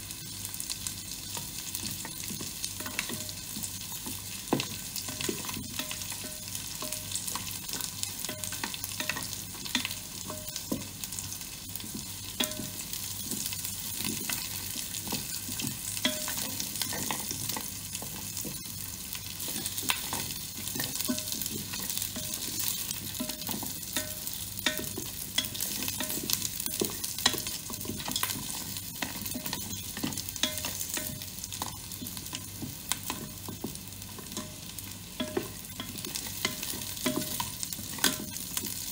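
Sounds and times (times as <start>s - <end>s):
spices sizzling in hot oil: 0.0s - 38.9s.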